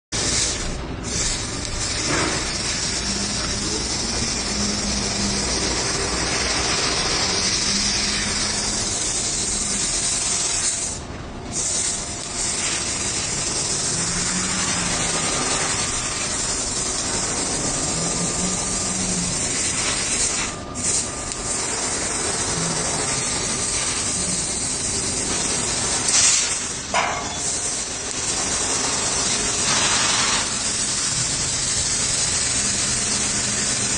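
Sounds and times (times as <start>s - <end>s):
plasma cutter hissing: 0.2s - 33.9s.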